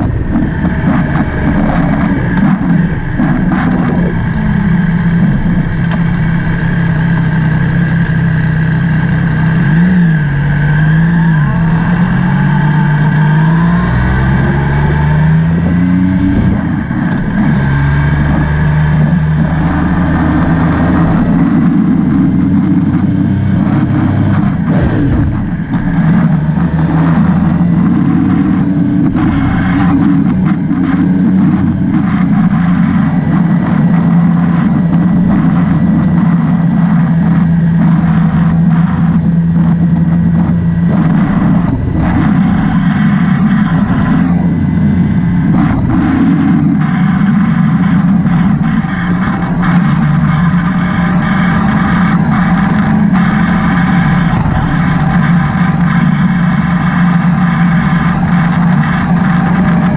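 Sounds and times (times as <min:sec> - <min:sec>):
motorbike engine running: 0:00.0 - 0:59.9
wind and road noise: 0:00.0 - 0:59.9.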